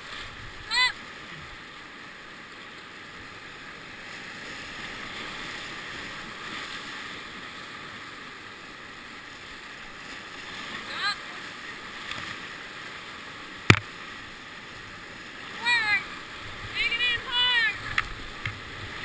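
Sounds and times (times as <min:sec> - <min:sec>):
whitewater rapids rushing: 0:00.0 - 0:19.0.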